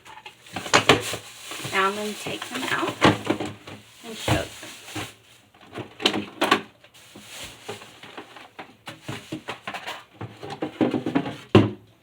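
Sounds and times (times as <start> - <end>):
food containers knocking and clattering: 0.0 - 11.9.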